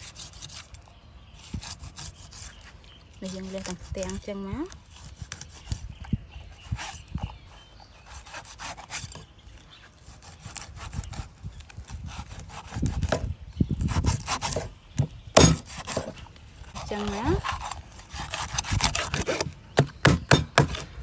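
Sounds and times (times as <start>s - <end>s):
cleaver scraping fish bones: 0.0s - 13.2s, 13.9s - 21.0s.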